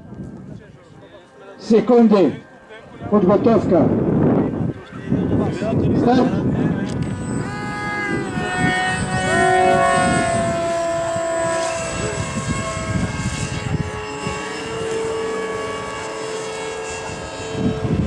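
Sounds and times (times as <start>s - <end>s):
wind rumbling on microphone: 0.0s - 1.1s, 2.8s - 18.0s
model aircraft motors whining: 0.0s - 18.0s.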